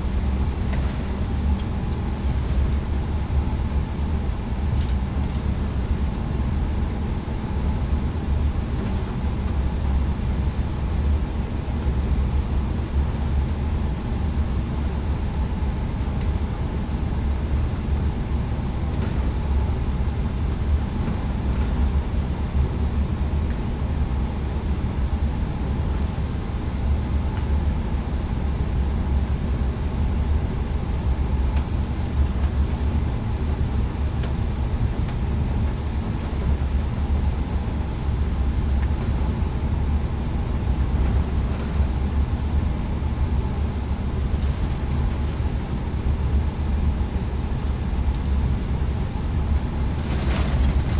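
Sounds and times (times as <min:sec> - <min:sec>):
aircraft cabin engine rumble: 0:00.0 - 0:50.9.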